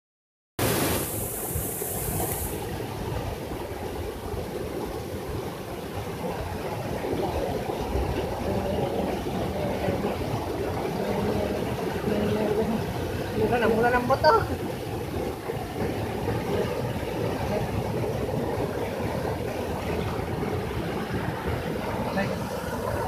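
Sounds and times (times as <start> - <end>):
waterfall rushing into pool: 0.6 - 23.0.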